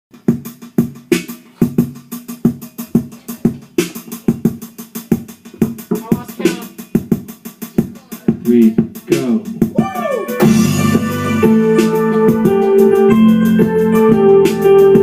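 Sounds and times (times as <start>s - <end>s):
fast drum beat: 0.1s - 15.0s.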